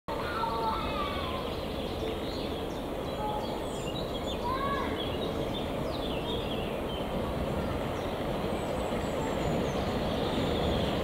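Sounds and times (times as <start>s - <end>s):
distant steam locomotive rushing: 0.1s - 11.0s
songbirds chirping: 0.1s - 11.0s.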